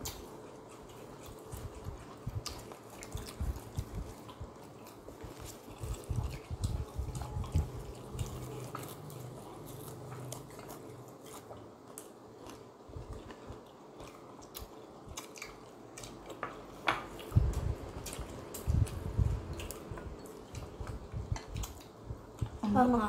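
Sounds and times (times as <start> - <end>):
person chewing food: 0.0 - 22.6.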